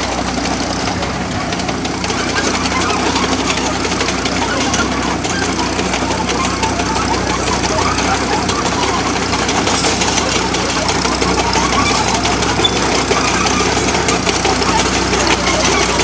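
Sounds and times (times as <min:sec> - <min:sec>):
engine pulsing at low speed: 0:00.0 - 0:16.0.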